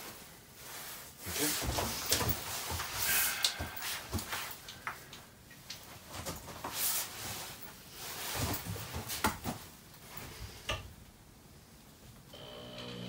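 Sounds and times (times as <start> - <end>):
clothing rustling: 0.0 - 12.2.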